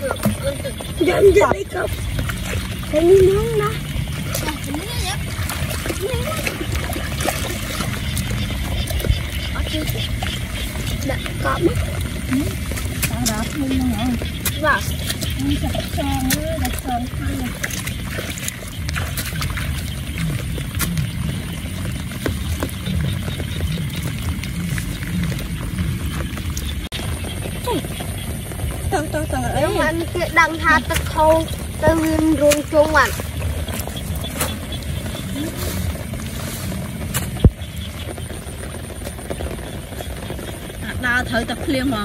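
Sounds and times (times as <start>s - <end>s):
frogs croaking: 0.0s - 42.0s
low rumble: 0.0s - 42.0s
people wading in water: 0.0s - 42.0s.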